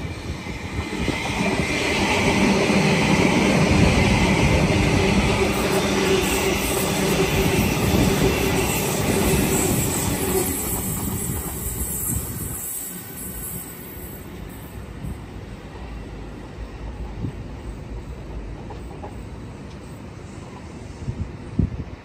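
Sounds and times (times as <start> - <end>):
train running past: 0.0 - 22.0.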